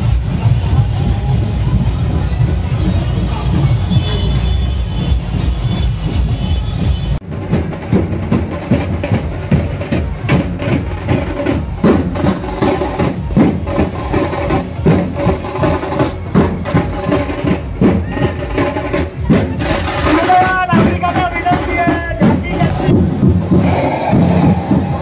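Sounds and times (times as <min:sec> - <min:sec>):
drum-driven procession music: 0:00.0 - 0:25.0.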